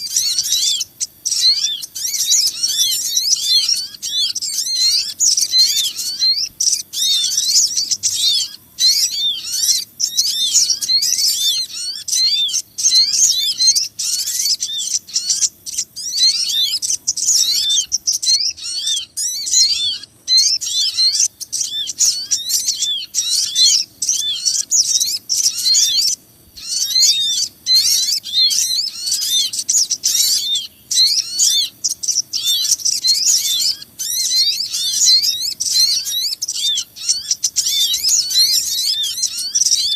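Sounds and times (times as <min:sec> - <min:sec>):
small birds chirping rapidly: 0:00.0 - 0:39.9.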